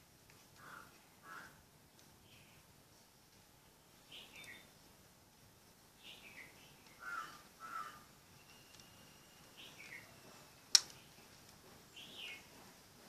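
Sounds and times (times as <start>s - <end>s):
birds chirping: 0.6s - 2.8s, 3.4s - 5.0s, 5.9s - 12.7s.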